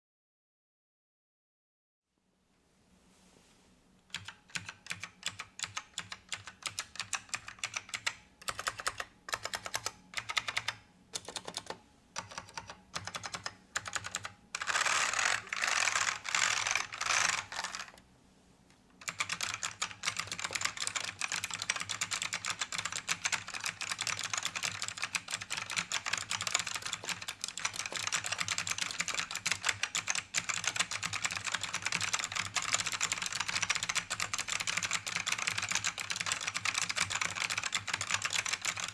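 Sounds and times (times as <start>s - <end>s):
typing on a keyboard: 4.1s - 17.9s, 19.0s - 38.9s.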